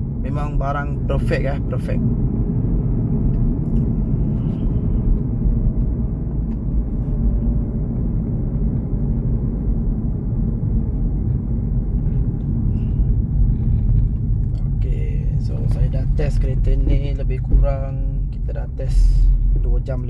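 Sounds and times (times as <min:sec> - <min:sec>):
low engine and road rumble: 0:00.0 - 0:20.0.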